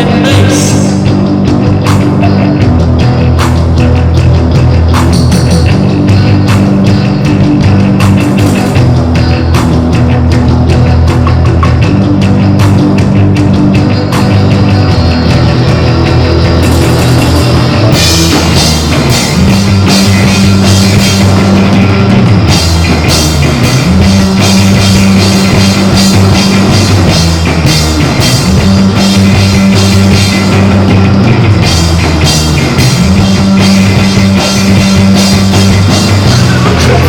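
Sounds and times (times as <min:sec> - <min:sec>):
bass line: 0:00.0 - 0:37.0
distorted guitar: 0:00.0 - 0:37.0
drum kit beating: 0:00.0 - 0:37.0
live rock band: 0:00.0 - 0:37.0.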